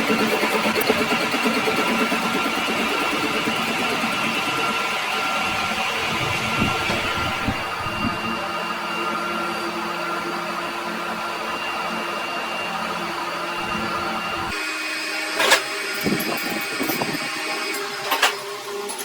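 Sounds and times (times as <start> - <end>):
workshop machine humming: 0.0 - 19.0.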